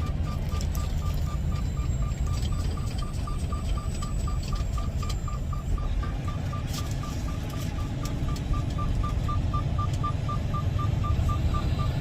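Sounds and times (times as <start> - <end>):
dashboard warning beep: 0.0 - 12.0
truck engine and road rumble: 0.0 - 12.0.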